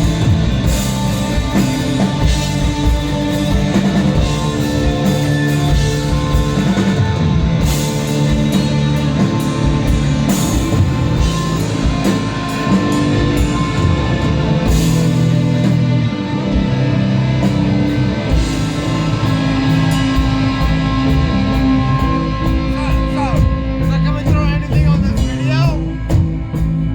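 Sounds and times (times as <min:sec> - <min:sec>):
bass guitar: 0:00.0 - 0:26.9
drum kit: 0:00.0 - 0:26.9
electric guitar: 0:00.0 - 0:26.9.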